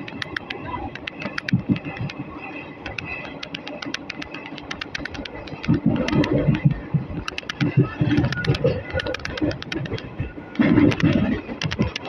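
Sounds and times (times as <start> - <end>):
sharp clicks and rattles: 0.0 - 12.0
train coach rumble: 0.0 - 12.0.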